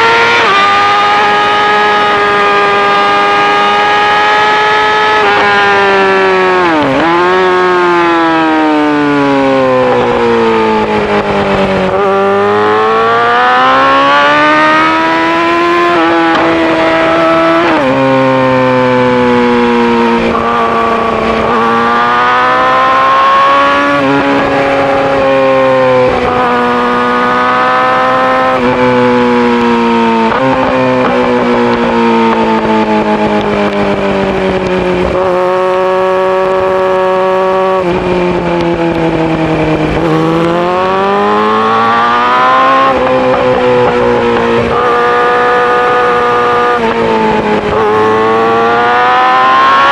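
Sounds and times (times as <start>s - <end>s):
sport bike engine revving: 0.0s - 49.9s.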